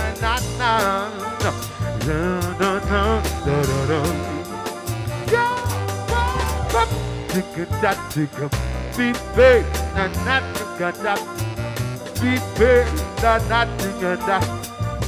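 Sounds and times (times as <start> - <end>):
bass line: 0.0 - 15.0
soul song: 0.0 - 15.0
steady drum beat: 0.0 - 15.0.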